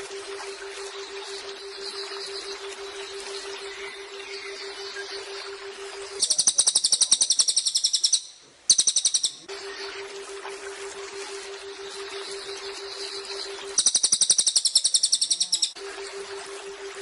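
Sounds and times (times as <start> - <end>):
bird singing rapid trill: 0.4 - 10.0, 11.6 - 15.8.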